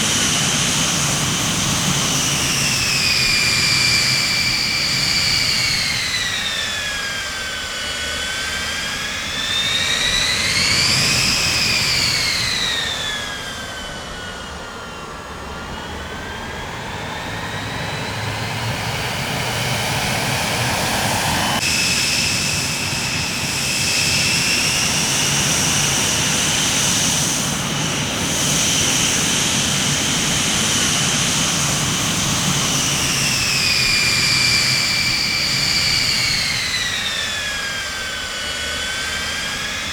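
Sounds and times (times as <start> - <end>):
jet engines whining: 0.0 - 39.9
steady jet roar: 0.0 - 39.9.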